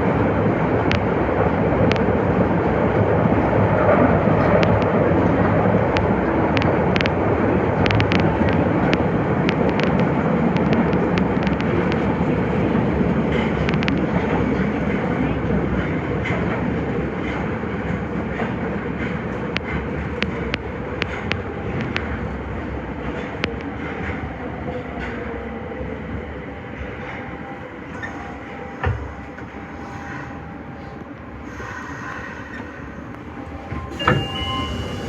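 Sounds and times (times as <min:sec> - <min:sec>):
subway train rumbling in tunnel: 0:00.0 - 0:35.0.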